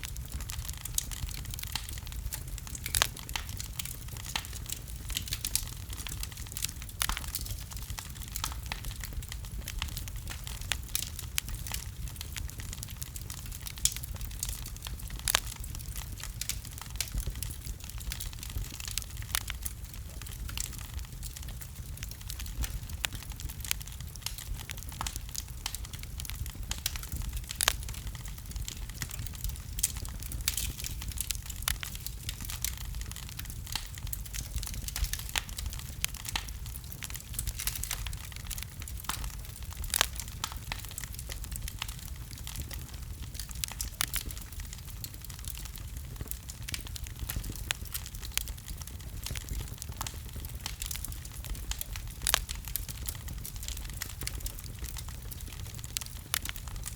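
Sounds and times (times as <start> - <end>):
low rumble of flames: 0.0 - 56.9
wood fire crackling: 0.0 - 56.9.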